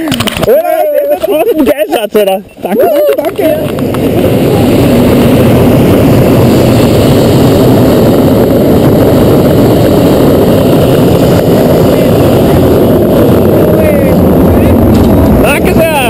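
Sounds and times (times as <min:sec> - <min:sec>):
propane burner roaring: 0:00.0 - 0:16.0.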